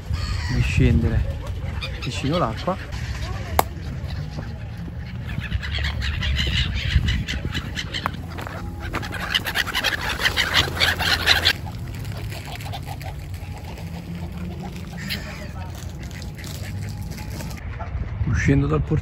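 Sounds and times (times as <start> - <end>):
gulls squawking: 0.0 - 18.1.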